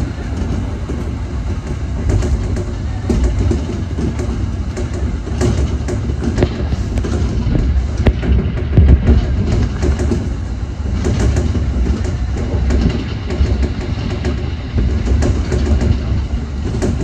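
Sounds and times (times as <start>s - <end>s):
train wheels rumbling on rail: 0.0s - 17.0s
wheels clicking over rail joints: 0.0s - 17.0s.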